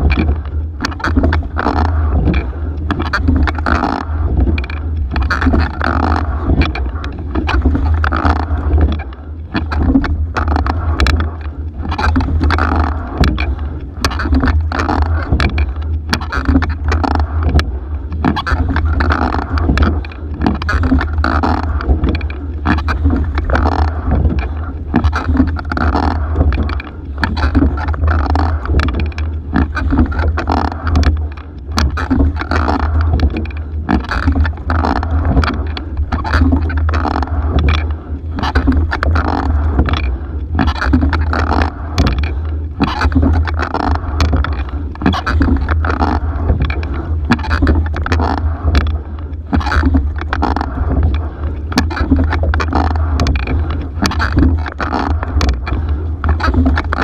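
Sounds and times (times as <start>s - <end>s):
low rumble: 0.0s - 57.0s
oars knocking and clicking: 0.0s - 57.0s
water rushing along hull: 0.0s - 57.0s.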